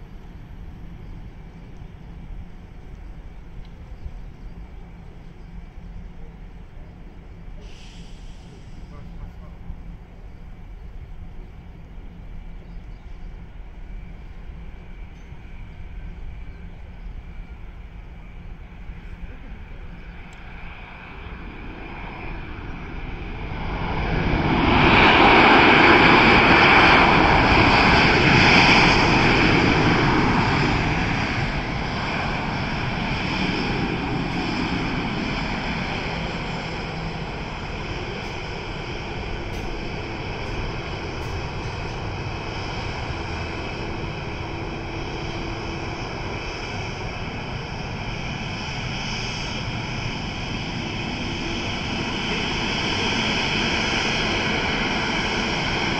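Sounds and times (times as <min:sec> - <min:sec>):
jet engines roaring: 0:00.0 - 0:55.9.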